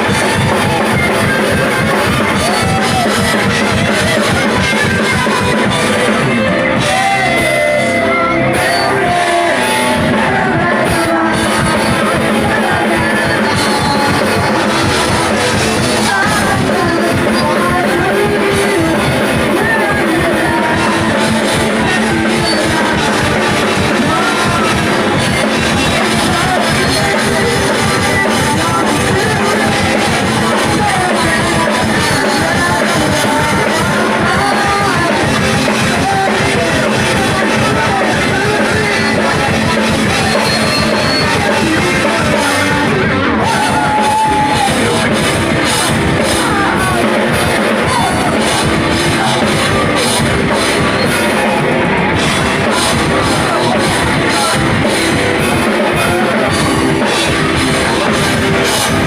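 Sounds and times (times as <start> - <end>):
live rock band playing: 0.0 - 59.0
person singing: 0.0 - 59.0.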